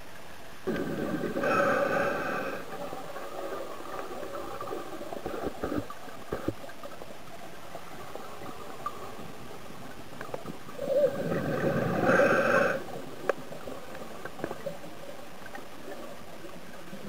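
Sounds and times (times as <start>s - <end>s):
steady hiss: 0.0s - 17.0s
underwater bubbles gurgling: 0.0s - 17.0s.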